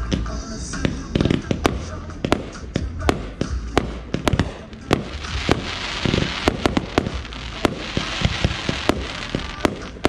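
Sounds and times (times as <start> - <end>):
continuous hiss: 0.0 - 10.0
fireworks bangs: 0.8 - 10.0.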